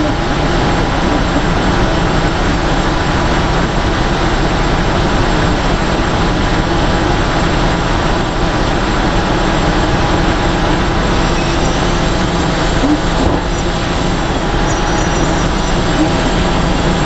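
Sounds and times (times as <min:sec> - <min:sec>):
diesel engine rumbling under load: 0:00.0 - 0:17.0.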